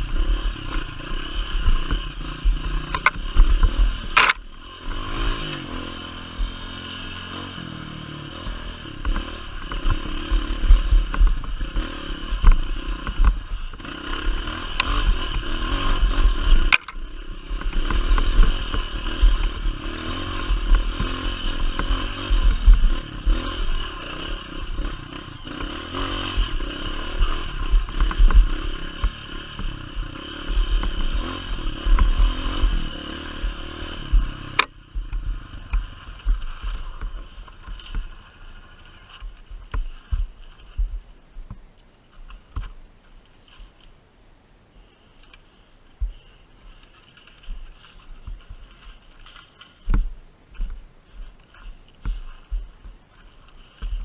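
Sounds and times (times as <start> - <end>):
motorcycle engine running: 0.0 - 43.9, 44.8 - 54.0.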